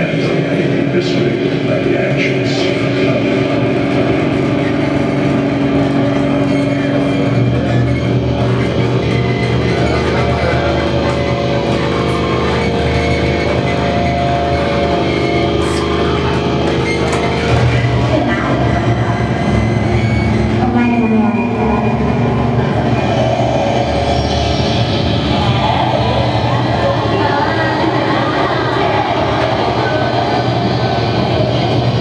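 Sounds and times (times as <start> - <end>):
low hum: 0.0 - 32.0
noise drone music: 0.0 - 32.0.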